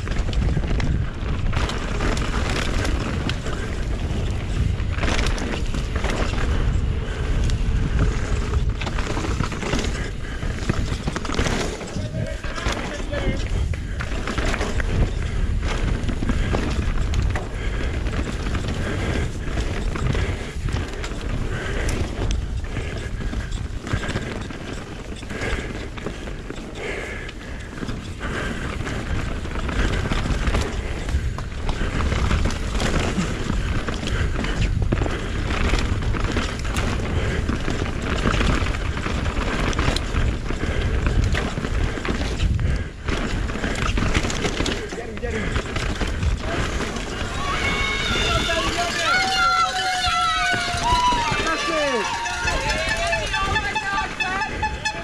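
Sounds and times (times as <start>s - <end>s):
bike knocks and rattles: 0.0s - 55.0s
wind and tyres on dirt: 0.0s - 55.0s.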